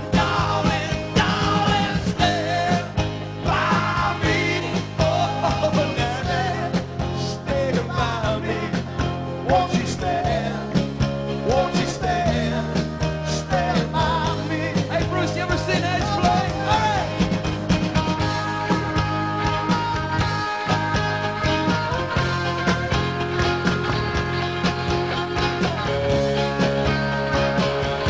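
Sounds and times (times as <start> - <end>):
rock music: 0.0 - 28.0.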